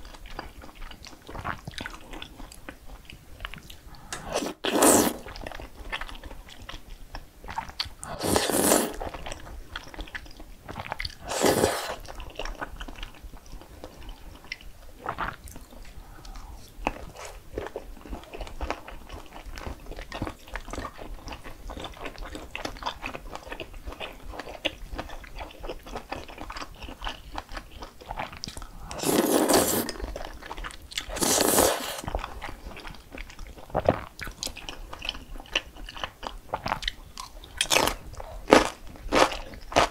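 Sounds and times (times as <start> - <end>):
quiet chewing: 0.0 - 39.9.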